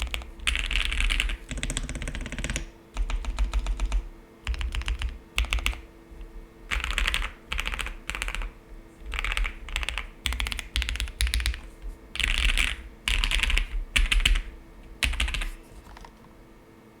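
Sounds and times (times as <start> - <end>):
mechanical keyboard typing: 0.0 - 16.2.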